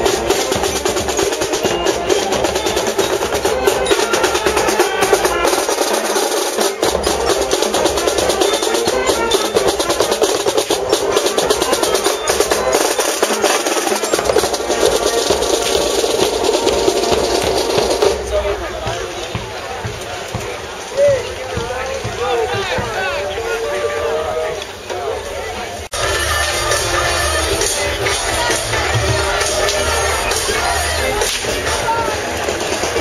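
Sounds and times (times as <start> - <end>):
snare and bass drums beat: 0.0 - 23.3, 25.9 - 33.0
marching band warming up: 0.0 - 33.0.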